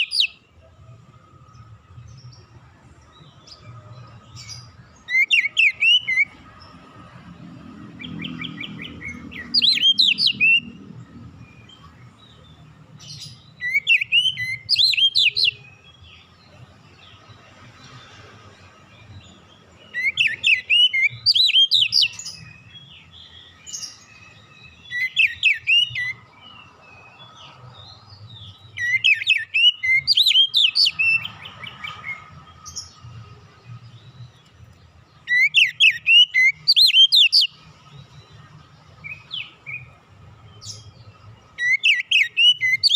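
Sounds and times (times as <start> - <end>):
bird singing whistled notes: 0.0 - 0.5, 1.4 - 6.8, 7.9 - 17.3, 18.9 - 42.9.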